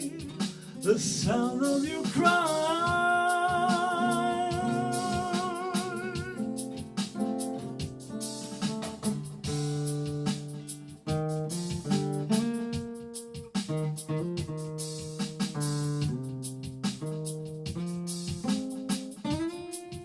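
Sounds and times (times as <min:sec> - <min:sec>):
guitar picked notes and chords: 0:00.0 - 0:20.0.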